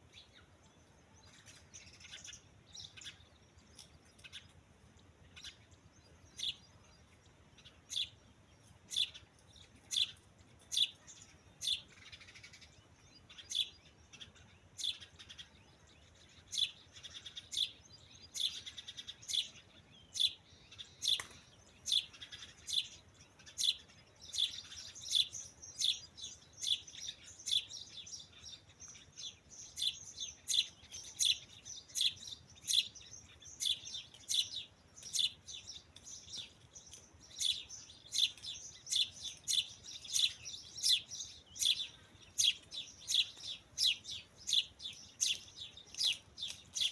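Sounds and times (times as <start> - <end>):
birds chirping: 0.0 - 46.9
birds twittering: 0.0 - 46.9.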